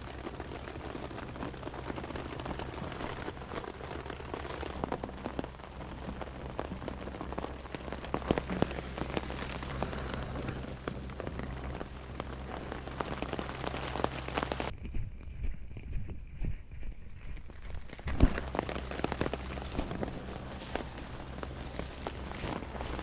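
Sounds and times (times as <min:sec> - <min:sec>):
rain falling: 0:00.0 - 0:14.7, 0:17.4 - 0:23.0
raindrops ticking on surfaces: 0:00.0 - 0:23.0.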